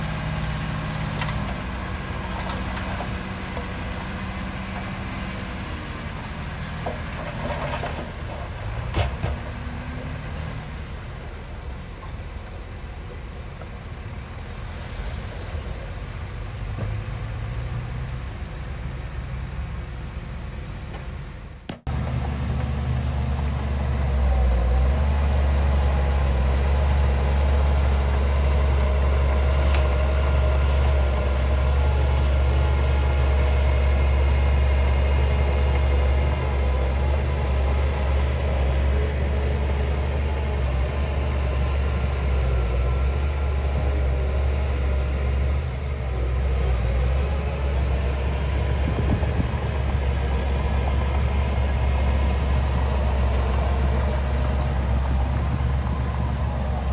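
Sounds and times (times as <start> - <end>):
heavy diesel engine humming: 0.0 - 56.9.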